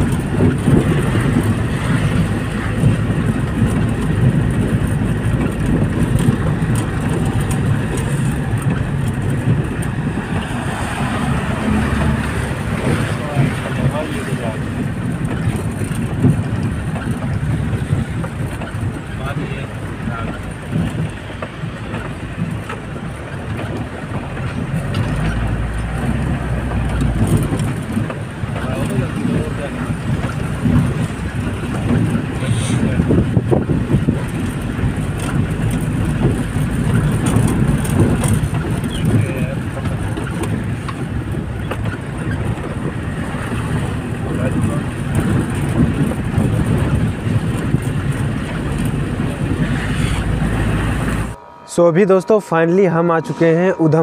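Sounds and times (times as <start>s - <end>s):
faint rattles: 0.0s - 51.4s
vehicle engine and road rumble: 0.0s - 54.0s.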